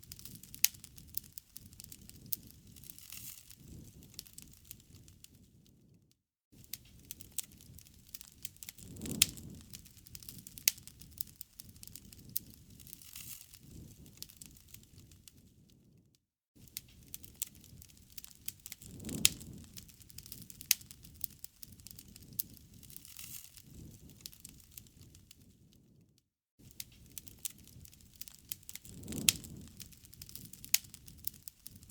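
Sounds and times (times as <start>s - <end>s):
campfire crackling and popping: 0.0s - 5.9s, 6.6s - 16.0s, 16.6s - 26.0s, 26.6s - 31.9s
low rush of flames: 0.0s - 6.0s, 6.6s - 16.0s, 16.6s - 26.0s, 26.6s - 31.9s.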